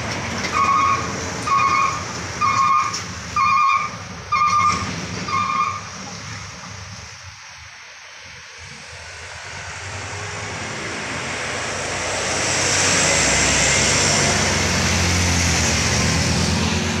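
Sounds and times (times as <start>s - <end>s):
truck passing by: 0.0s - 17.0s.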